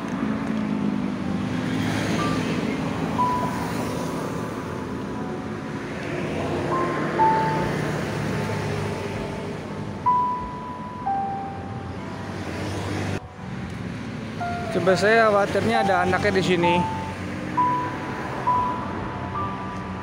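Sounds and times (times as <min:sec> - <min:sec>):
road traffic: 0:00.0 - 0:20.0
faint held notes: 0:01.2 - 0:20.0.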